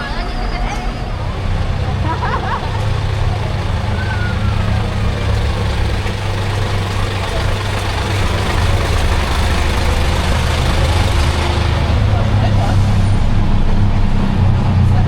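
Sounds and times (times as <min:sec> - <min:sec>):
bus diesel engine idling: 0:00.0 - 0:15.0.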